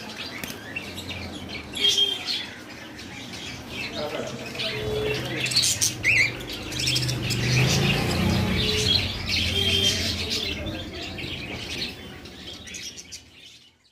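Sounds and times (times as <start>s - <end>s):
budgerigars chirping: 0.0s - 13.9s.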